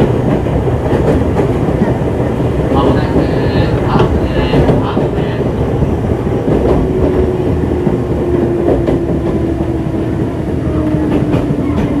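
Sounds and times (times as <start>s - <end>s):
train wheels rumbling: 0.0s - 12.0s
wheels clicking on rails: 0.0s - 12.0s.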